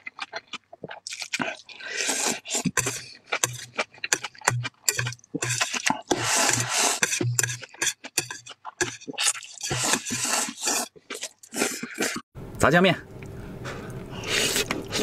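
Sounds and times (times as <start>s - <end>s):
wet chewing and lip-smacking: 0.0s - 12.2s
noodle slurp: 0.4s - 12.2s, 14.1s - 15.0s.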